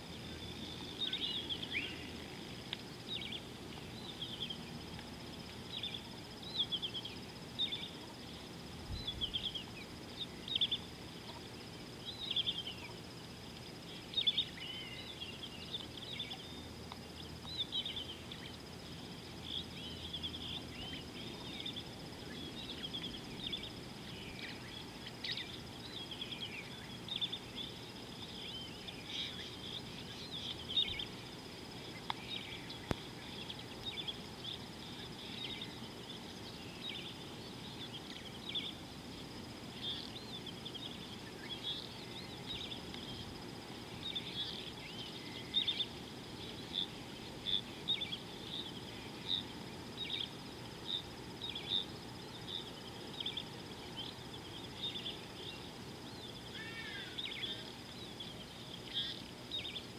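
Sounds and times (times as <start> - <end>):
low background hiss: 0.0 - 59.9
wild birds chirping: 0.0 - 59.9.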